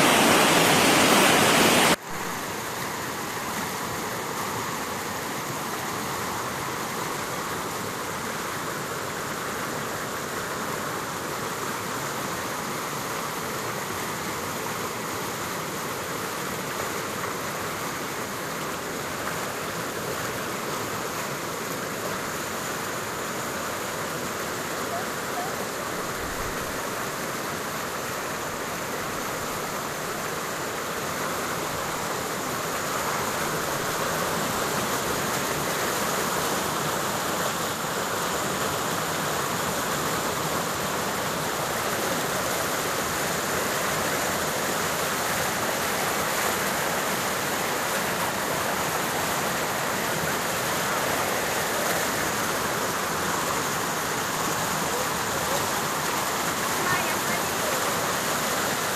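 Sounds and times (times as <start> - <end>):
flowing water rushing: 0.0 - 58.9.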